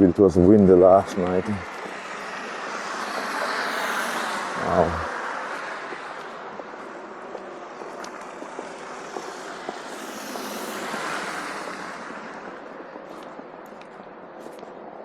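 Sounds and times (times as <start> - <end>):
tyres hissing on slushy street: 0.0 - 14.9.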